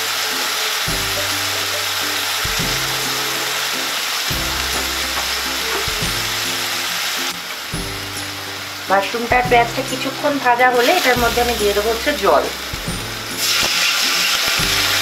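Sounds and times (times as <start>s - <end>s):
background music with low notes: 0.0s - 15.0s
mushrooms and onion sizzling in oil: 0.0s - 15.0s.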